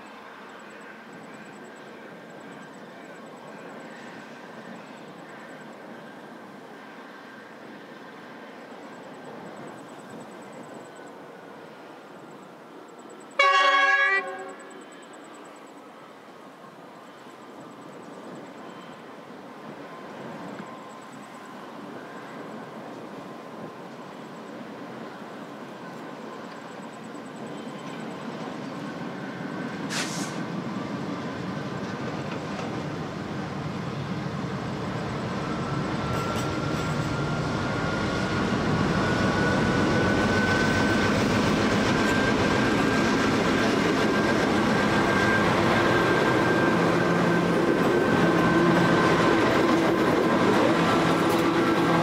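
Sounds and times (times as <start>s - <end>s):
diesel locomotive engine drone: 0.0s - 52.0s.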